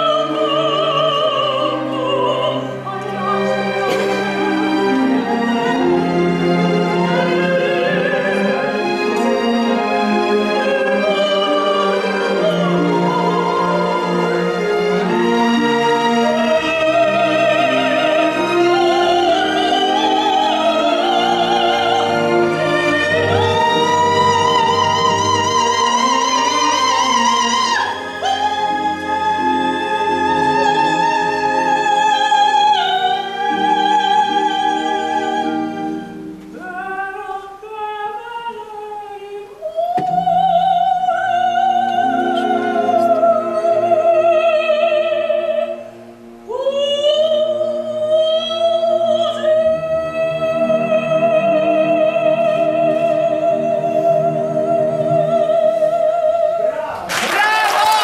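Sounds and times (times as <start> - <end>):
orchestra playing: 0.0 - 37.4, 40.1 - 57.3
soprano singing opera with vibrato: 0.0 - 58.0.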